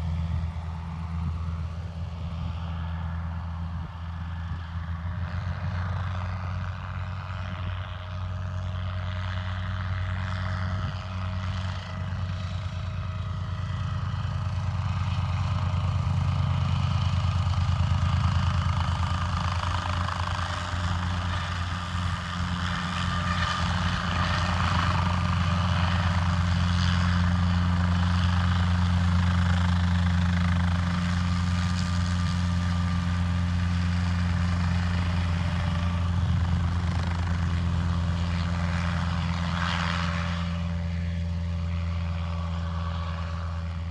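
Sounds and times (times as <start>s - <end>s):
helicopter rotor beating: 0.0s - 43.9s
piston engine drone: 0.0s - 43.9s.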